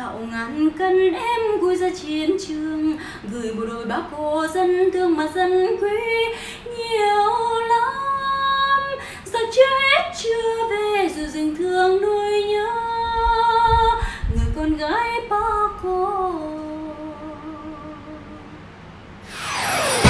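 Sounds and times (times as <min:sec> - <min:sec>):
woman singing: 0:00.0 - 0:18.4.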